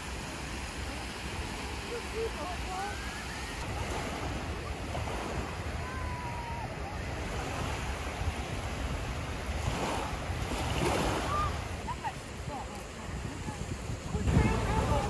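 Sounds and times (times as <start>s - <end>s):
waves washing onto beach: 0.0s - 15.0s
wind rumbling on microphone: 0.0s - 15.0s.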